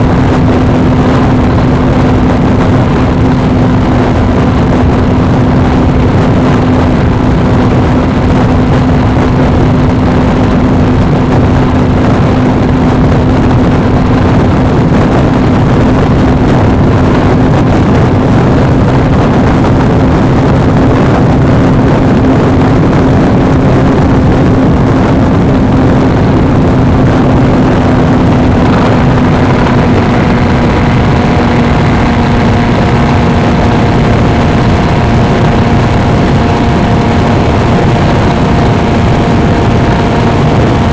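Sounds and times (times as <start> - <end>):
motorcycle engine droning: 0.0 - 40.9
rush of wind noise: 0.0 - 40.9.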